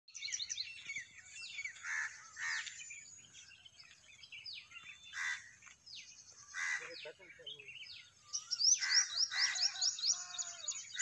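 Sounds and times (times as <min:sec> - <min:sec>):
birds whistling and chirping: 0:00.1 - 0:11.0
harsh bird calls: 0:00.1 - 0:11.0.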